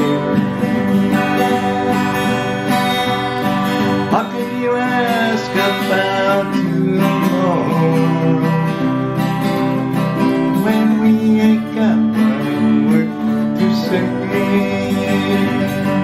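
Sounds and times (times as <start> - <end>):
acoustic guitar strummed: 0.0 - 16.0.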